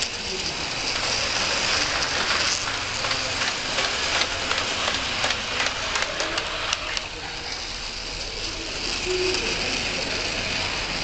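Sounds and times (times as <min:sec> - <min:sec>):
model train wheels rolling: 0:00.0 - 0:11.0.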